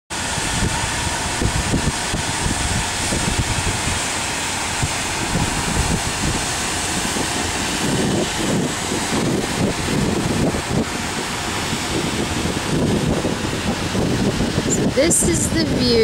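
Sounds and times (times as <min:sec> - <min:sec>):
wind on microphone: 0:00.1 - 0:16.0.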